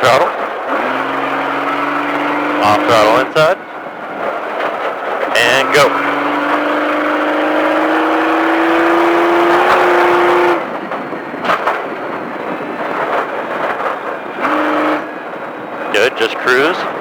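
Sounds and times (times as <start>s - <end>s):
truck engine at full throttle: 0.0s - 17.0s.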